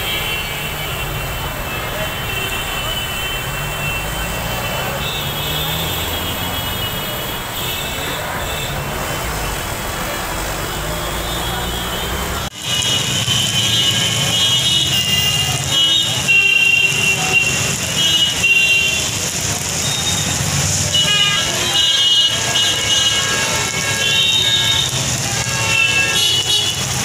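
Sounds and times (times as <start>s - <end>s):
traffic on wet road: 0.0s - 27.0s.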